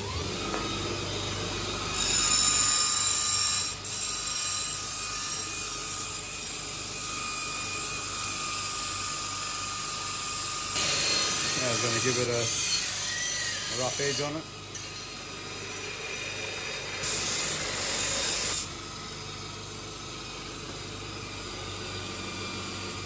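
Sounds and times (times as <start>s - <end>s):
bench grinder whining: 0.0s - 23.0s.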